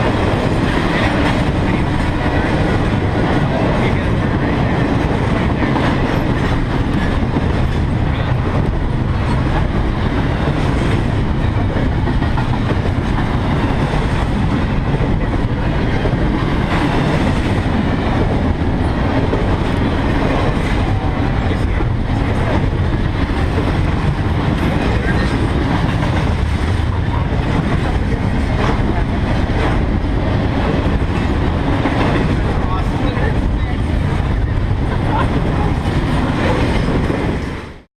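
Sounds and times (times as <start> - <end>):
wheels clacking over rail joints: 0.0 - 37.8
freight train rumbling past: 0.0 - 37.9.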